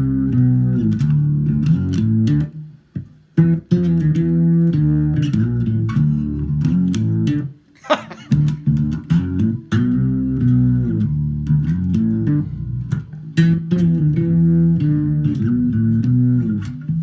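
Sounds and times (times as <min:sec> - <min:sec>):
fretless electric bass notes sliding: 0:00.0 - 0:07.6, 0:08.3 - 0:17.0.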